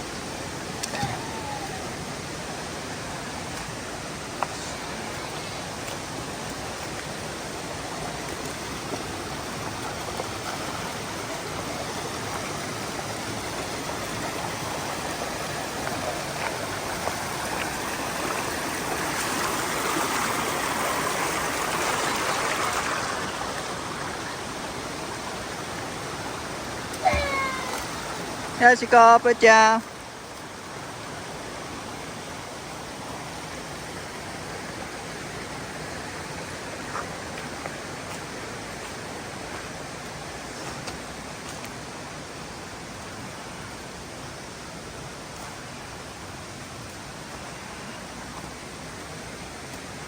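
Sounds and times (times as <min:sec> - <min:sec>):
stream rushing over rocks: 0:00.0 - 0:50.0.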